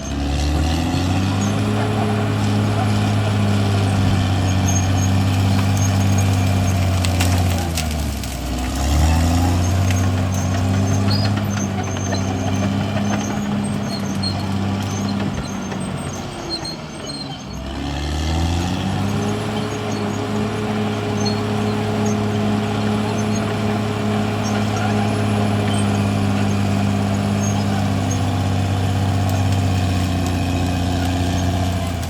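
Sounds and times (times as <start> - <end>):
bulldozer diesel engine under load: 0.0 - 32.0.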